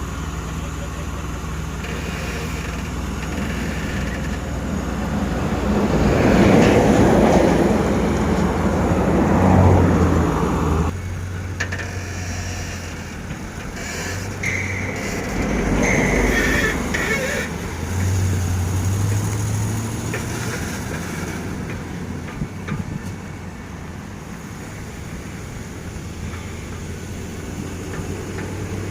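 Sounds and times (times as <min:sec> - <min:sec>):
heavy truck passing: 0:00.0 - 0:28.9.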